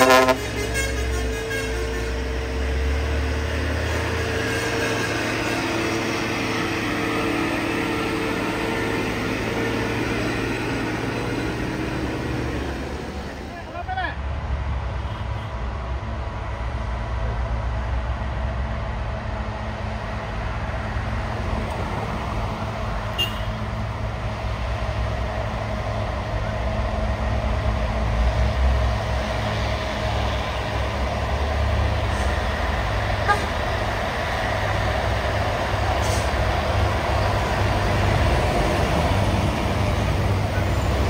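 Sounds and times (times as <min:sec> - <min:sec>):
truck engine rumble: 0:00.0 - 0:41.0.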